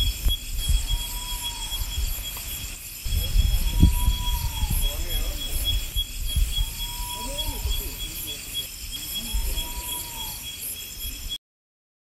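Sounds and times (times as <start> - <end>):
bird drawn-out calls: 0.0 - 11.4
night insects ringing: 0.0 - 11.4.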